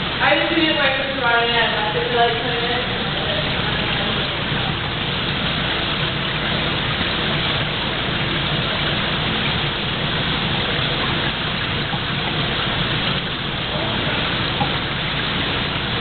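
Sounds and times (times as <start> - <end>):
running water rushing in tank: 0.0 - 16.0.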